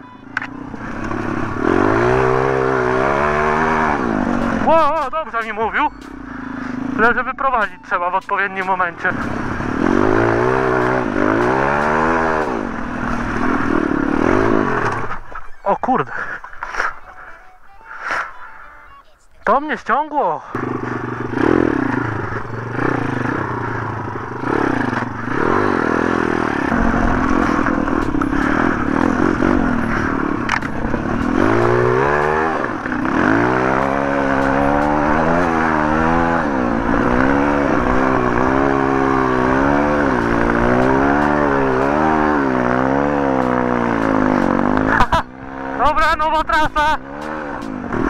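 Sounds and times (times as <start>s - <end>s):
pit bike engine revving: 0.3s - 15.4s, 20.4s - 48.0s.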